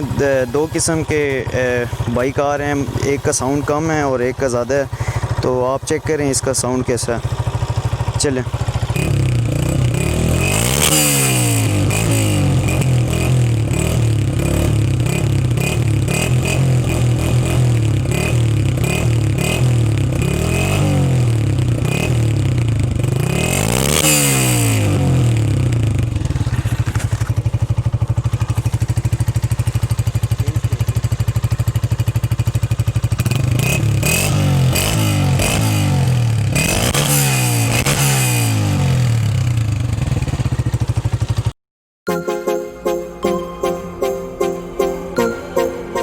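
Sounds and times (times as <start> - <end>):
motorcycle engine revving and idling: 0.0 - 41.6.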